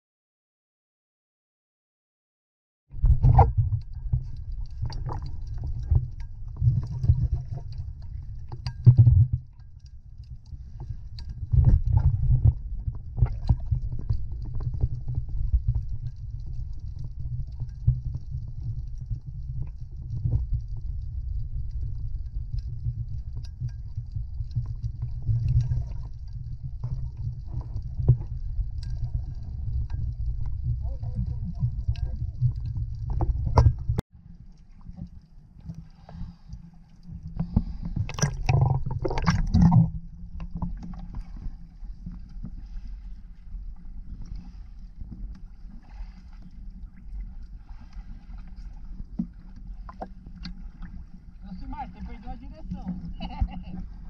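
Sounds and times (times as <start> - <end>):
underwater rumble of moving water: 2.9 - 54.0.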